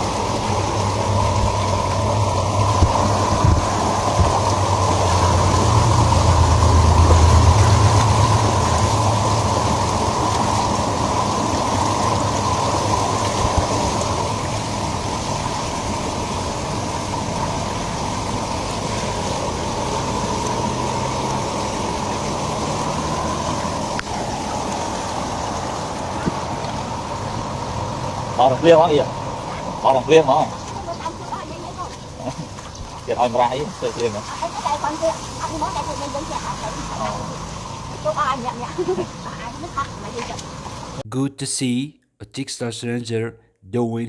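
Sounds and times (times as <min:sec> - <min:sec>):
steady rushing noise: 0:00.0 - 0:41.0
vehicle engine rumbling: 0:00.0 - 0:41.0.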